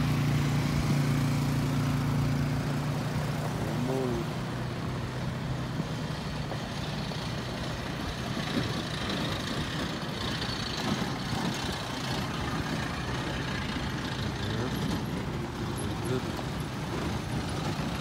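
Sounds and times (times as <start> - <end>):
truck engines running: 0.0 - 18.0
tyres on gravel: 0.0 - 18.0.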